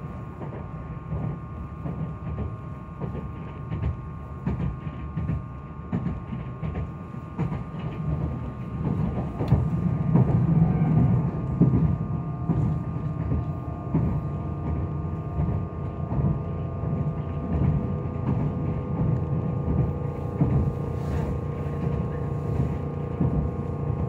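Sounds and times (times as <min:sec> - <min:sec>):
constant hum: 0:00.0 - 0:24.0
train wheels rumbling on rail: 0:00.0 - 0:24.0.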